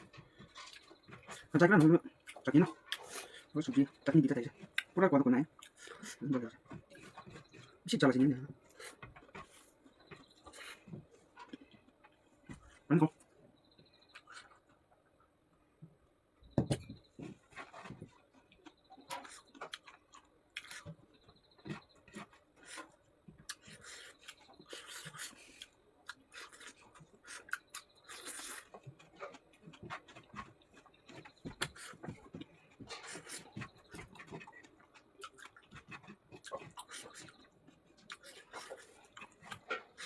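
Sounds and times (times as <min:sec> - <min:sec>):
person chewing with mouth smacks: 0:00.0 - 0:05.0, 0:05.6 - 0:12.9, 0:13.8 - 0:14.8, 0:17.2 - 0:40.0.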